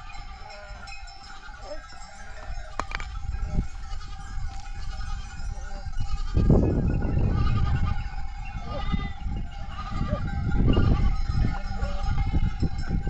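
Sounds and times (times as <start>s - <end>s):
goats and sheep bleating: 0.0s - 13.0s.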